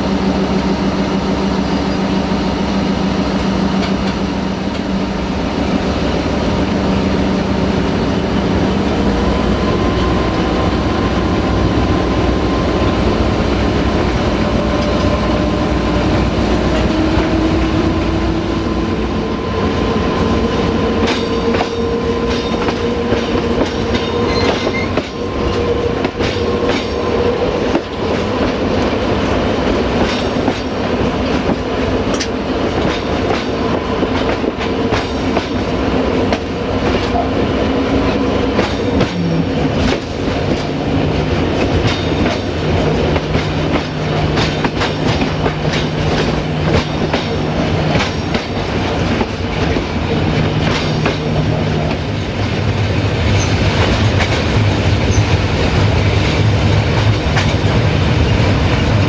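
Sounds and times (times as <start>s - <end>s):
train wheels clicking over rail joints: 3.3s - 6.1s, 6.8s - 59.0s.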